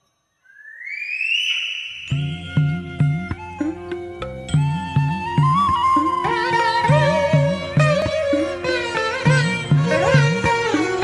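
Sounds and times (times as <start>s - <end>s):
flute-like melody: 0.8s - 11.0s.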